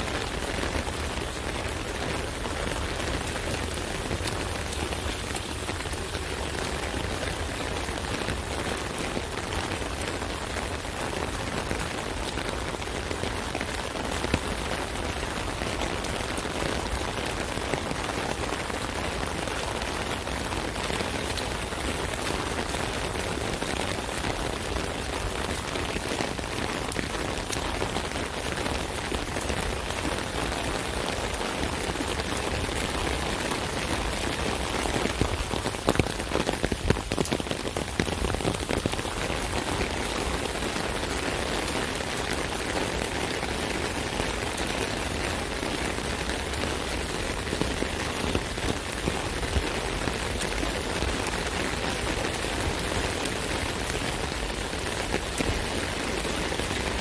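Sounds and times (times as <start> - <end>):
rain on an umbrella: 0.0 - 57.0.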